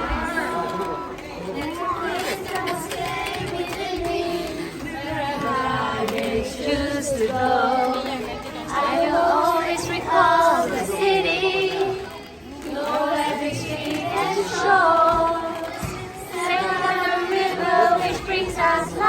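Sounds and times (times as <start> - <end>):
music: 1.6 - 19.0.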